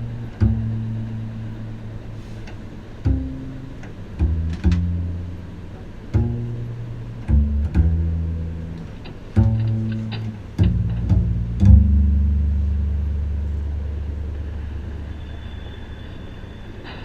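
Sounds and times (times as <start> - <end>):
double bass plucked notes: 0.0 - 15.1.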